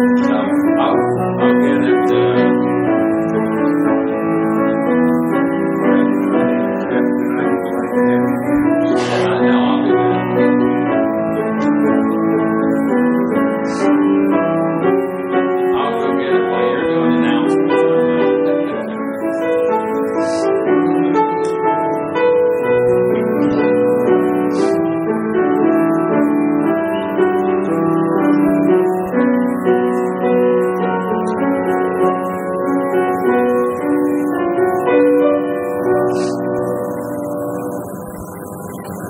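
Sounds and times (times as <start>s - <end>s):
piano playing chords: 0.0s - 39.0s.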